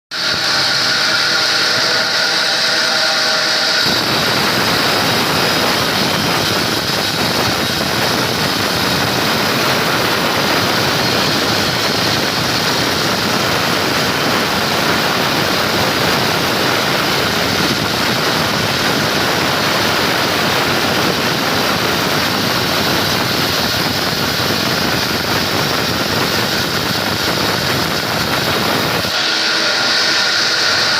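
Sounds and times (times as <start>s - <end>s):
saw cutting wood: 0.1s - 30.9s.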